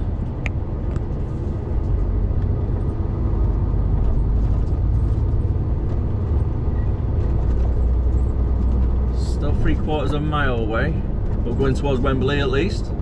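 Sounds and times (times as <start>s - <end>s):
truck engine and tyre drone: 0.0s - 13.0s.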